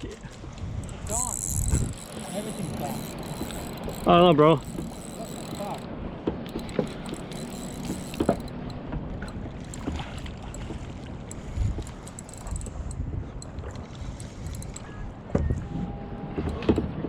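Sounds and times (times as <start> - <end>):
wind on microphone: 0.0 - 8.2, 9.4 - 15.9
water sloshing against hull: 0.0 - 17.0.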